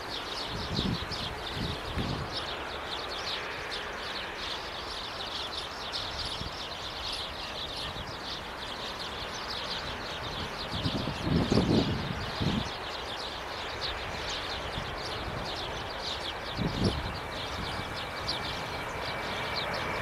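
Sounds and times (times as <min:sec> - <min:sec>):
birds chirping rapidly: 0:00.0 - 0:20.0.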